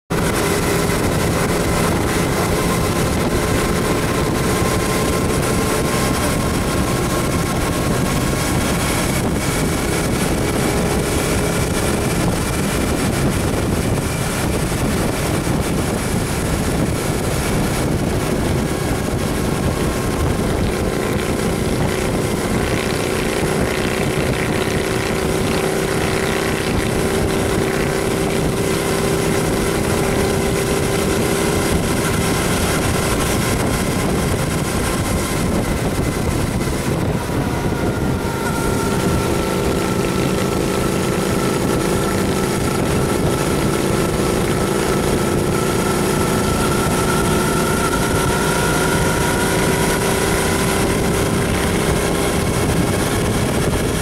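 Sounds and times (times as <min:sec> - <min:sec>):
motorcycle engine running: 0:00.0 - 0:54.0
wind rushing on microphone: 0:00.1 - 0:54.0.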